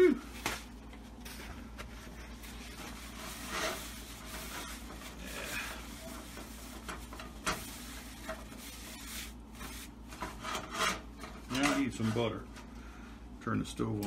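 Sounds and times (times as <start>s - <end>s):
faint rubbing and scraping: 1.3s - 12.7s.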